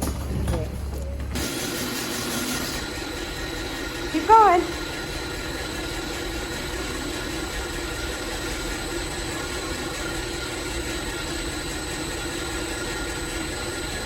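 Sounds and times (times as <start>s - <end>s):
machine drone with whining tones: 0.9s - 14.0s.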